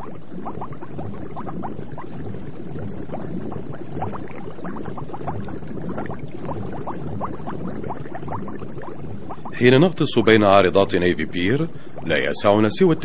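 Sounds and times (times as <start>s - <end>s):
underwater bubbles: 0.0s - 13.0s.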